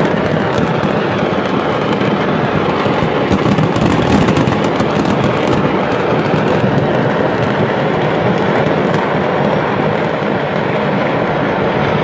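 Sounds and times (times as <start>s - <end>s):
fire roaring and crackling: 0.0s - 12.0s.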